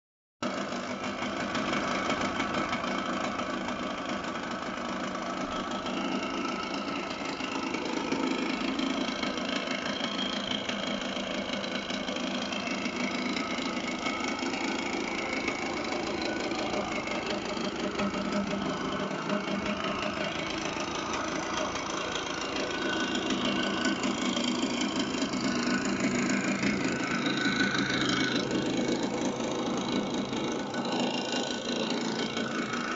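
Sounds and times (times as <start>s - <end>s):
two-stroke engine idling: 0.4s - 32.9s.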